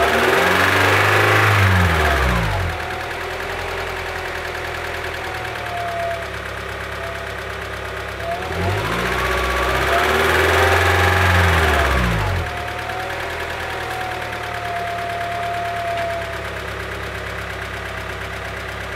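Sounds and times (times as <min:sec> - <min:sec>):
car engine idling and revving: 0:00.0 - 0:18.9
engine valvetrain noise: 0:00.0 - 0:18.9.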